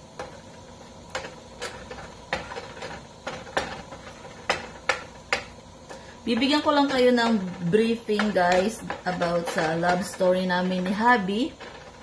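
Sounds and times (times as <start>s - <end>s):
utensil clinking against cookware: 1.1s - 12.0s.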